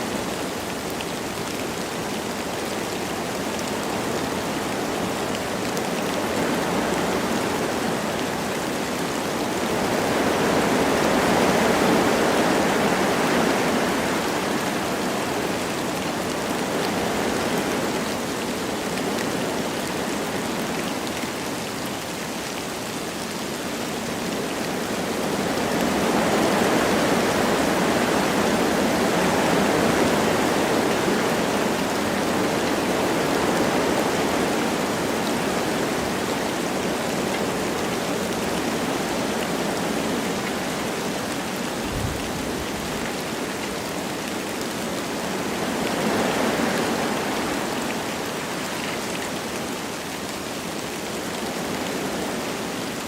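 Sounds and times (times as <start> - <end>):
light rain: 0.0 - 53.0
wind through trees: 0.0 - 53.0.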